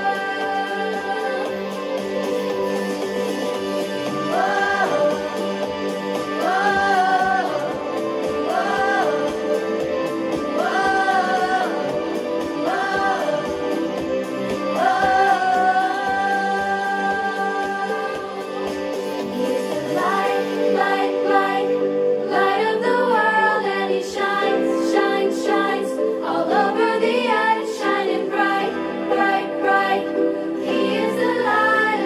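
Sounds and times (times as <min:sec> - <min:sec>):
children's worship song: 0:00.0 - 0:32.0.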